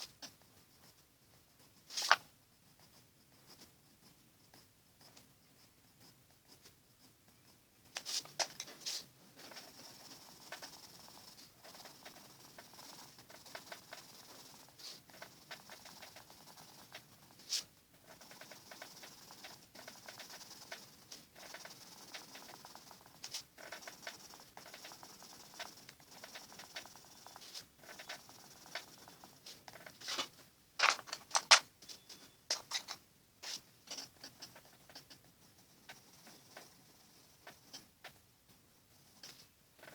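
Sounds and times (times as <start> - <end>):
pencil scratching on paper: 0.0 - 39.9.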